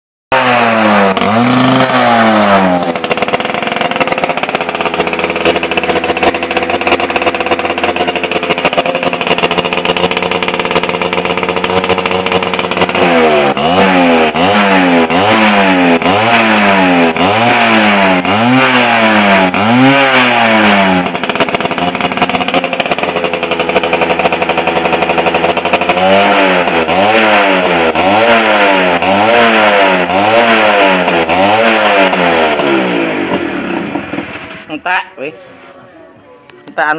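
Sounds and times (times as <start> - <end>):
motorcycle engine idling and revving: 0.3 - 35.2.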